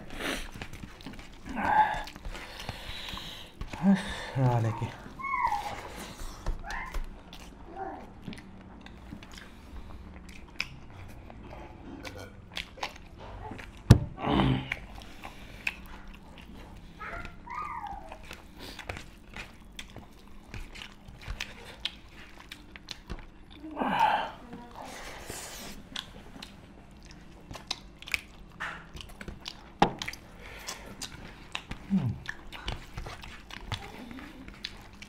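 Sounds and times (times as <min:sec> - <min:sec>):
people chewing and smacking: 0:00.0 - 0:35.0.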